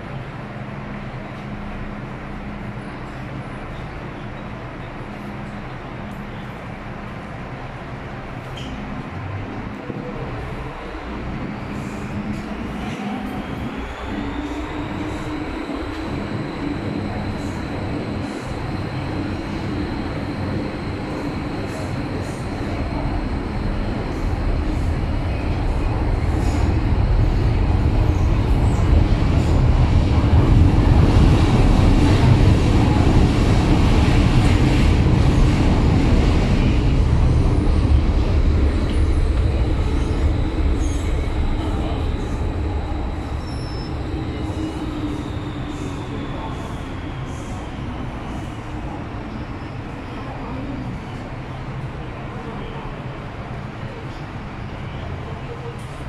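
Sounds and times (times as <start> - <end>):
high train whine: 0.0 - 56.0
train wheel and running noise: 0.0 - 56.0.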